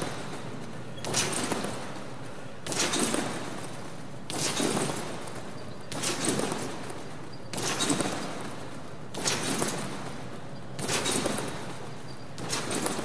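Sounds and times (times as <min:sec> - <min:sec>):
trampoline landings: 0:00.0 - 0:13.0.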